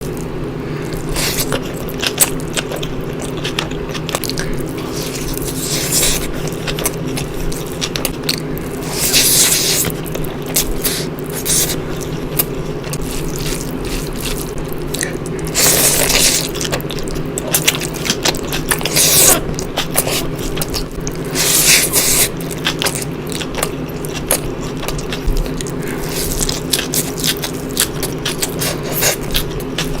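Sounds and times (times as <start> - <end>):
steady low hum: 0.0 - 30.0
wet chewing and smacking: 0.0 - 30.0.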